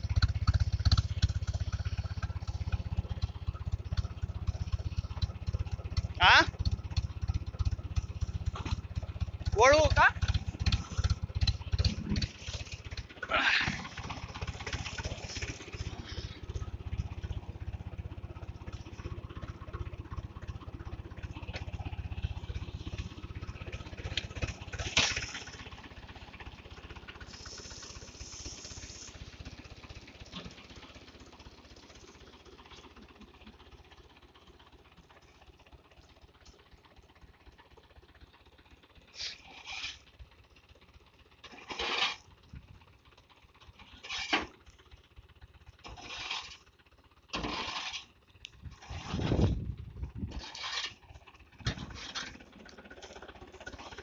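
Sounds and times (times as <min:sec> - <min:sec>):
diesel tractor engine throbbing: 0:00.0 - 0:54.0.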